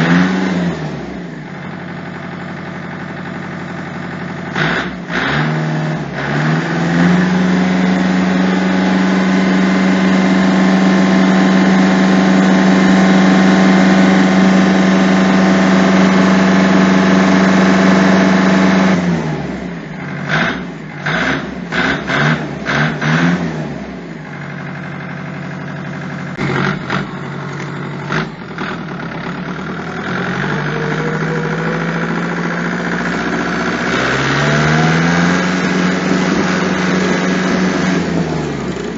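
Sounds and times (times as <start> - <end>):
engine throttle blips: 0.0 - 38.9
tractor diesel engine revving: 0.0 - 38.9.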